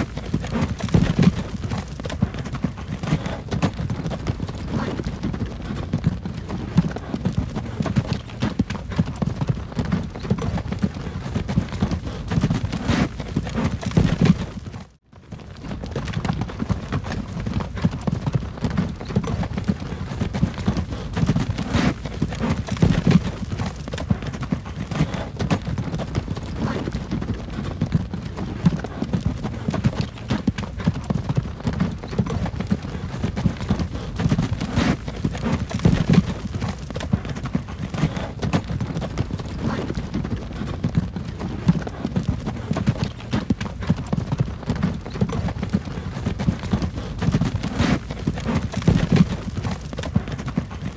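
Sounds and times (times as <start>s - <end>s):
wagon low rumble: 0.0s - 43.8s, 44.4s - 50.9s
hooves clip-clopping: 0.0s - 50.9s.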